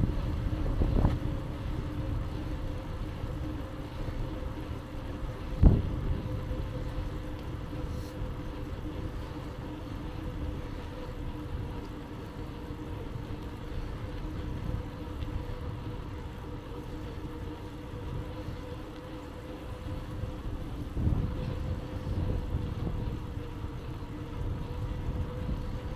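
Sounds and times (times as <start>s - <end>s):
faint steady hum: 0.0s - 25.9s
rumble of tyres and wind: 0.0s - 25.9s.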